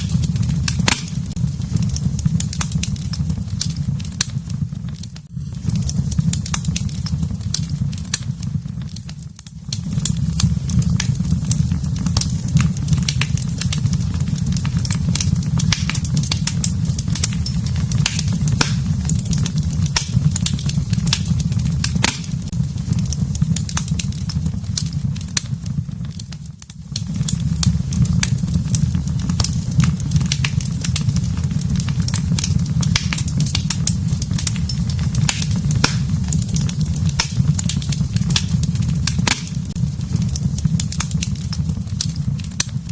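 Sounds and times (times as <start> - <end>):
fire crackling and popping: 0.0 - 42.9
low rumble of flames: 0.0 - 42.9.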